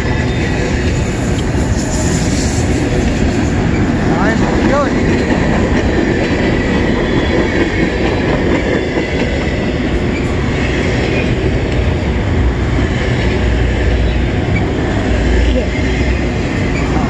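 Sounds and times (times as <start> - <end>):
freight cars rumbling on track: 0.0 - 17.0.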